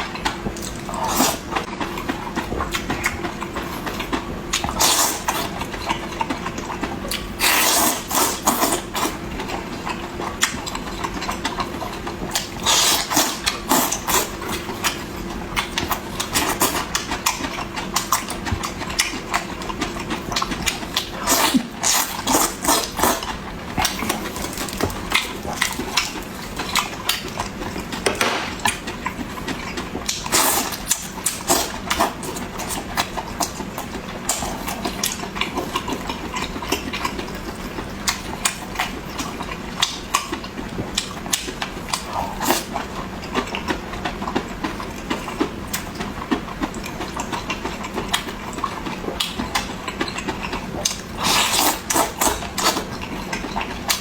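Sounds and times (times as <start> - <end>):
chewing and lip-smacking: 0.0 - 54.0.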